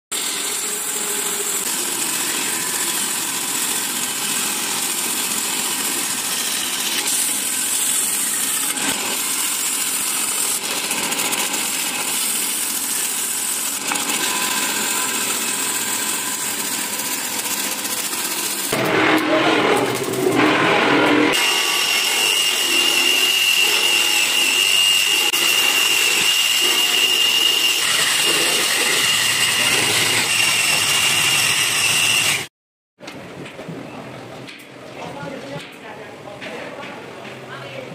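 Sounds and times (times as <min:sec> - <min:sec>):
band saw cutting wood: 0:00.1 - 0:32.5
power tool whining: 0:00.2 - 0:32.5.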